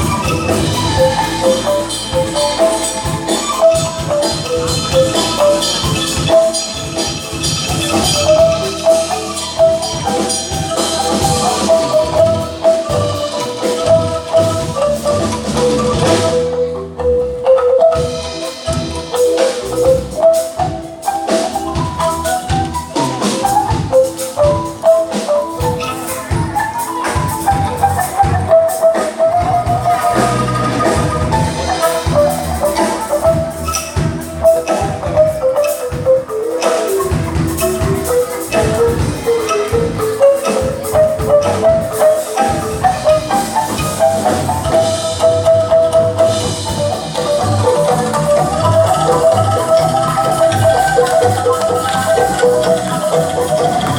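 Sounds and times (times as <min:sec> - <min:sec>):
bamboo tubes melody: 0:00.0 - 0:53.9
band with drum beat: 0:00.0 - 0:53.9.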